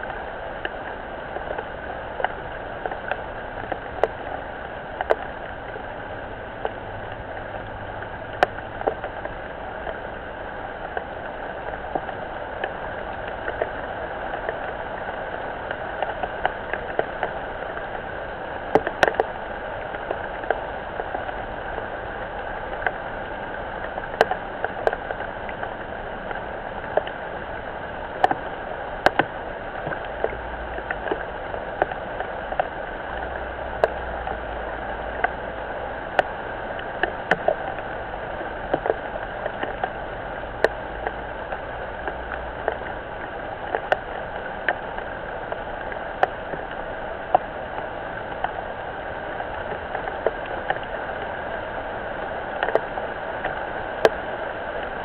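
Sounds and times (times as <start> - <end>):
rain falling on a pond: 0.0 - 55.0
raindrops ticking close by: 0.0 - 55.0.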